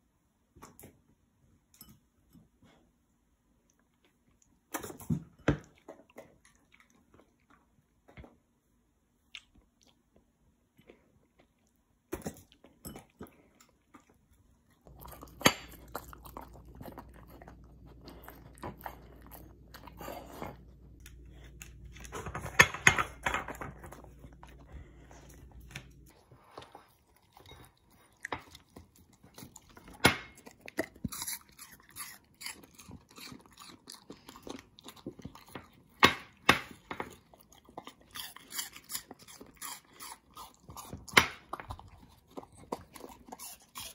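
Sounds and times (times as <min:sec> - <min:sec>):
dog chewing and crunching food: 0:03.6 - 0:08.6, 0:09.2 - 0:43.9.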